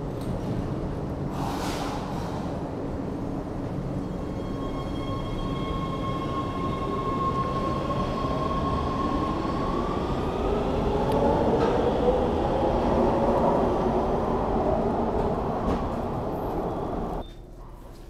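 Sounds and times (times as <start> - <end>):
subway train rumbling: 0.0 - 17.8.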